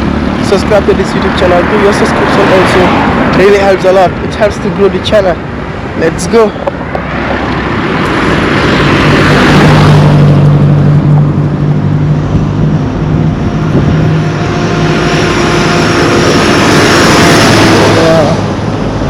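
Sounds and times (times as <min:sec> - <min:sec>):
road traffic passing: 0:00.0 - 0:19.0
vehicle engine humming: 0:00.0 - 0:19.0.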